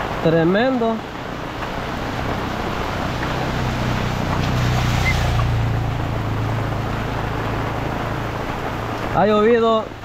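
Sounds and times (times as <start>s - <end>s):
heavy rain on umbrella: 0.0s - 10.0s.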